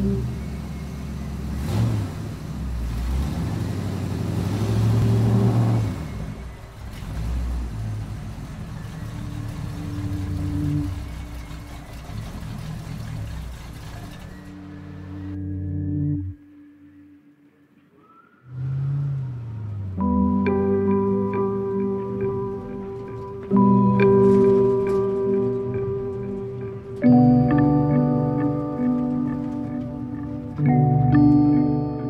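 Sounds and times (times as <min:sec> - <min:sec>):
car engine revving: 0:00.0 - 0:17.0, 0:18.4 - 0:32.0.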